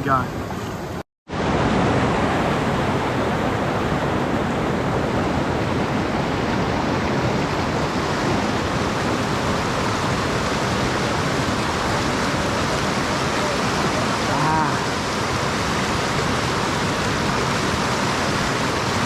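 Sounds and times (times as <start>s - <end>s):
water rushing over rocks: 1.3s - 19.0s.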